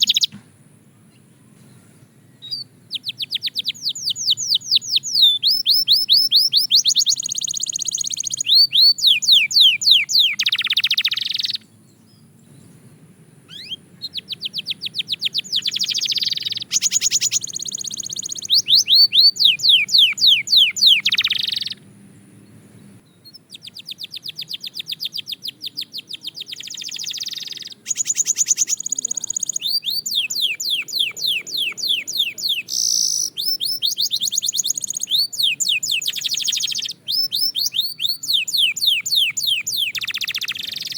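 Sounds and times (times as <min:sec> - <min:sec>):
canary singing trills: 0:00.0 - 0:00.4, 0:01.0 - 0:40.9.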